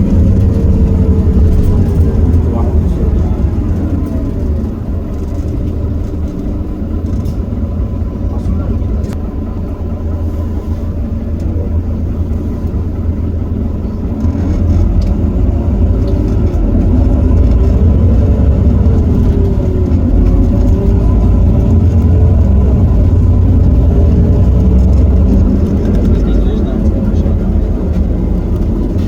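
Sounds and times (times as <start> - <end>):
bus diesel engine accelerating: 0.0 - 29.0.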